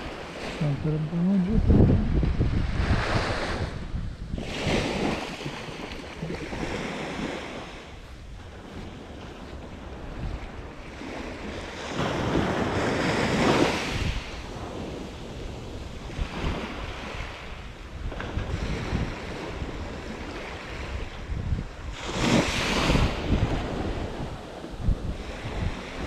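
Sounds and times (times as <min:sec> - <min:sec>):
small waves breaking on beach: 0:00.0 - 0:26.0
wind buffeting microphone: 0:00.0 - 0:26.0.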